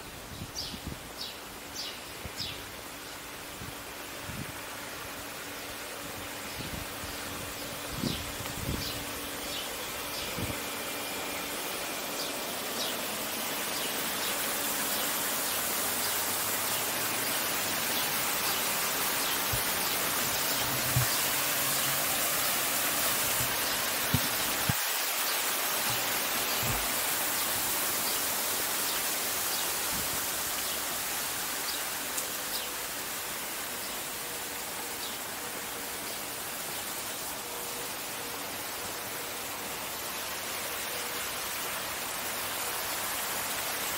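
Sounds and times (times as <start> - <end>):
fountain water splashing: 2.6 - 43.9.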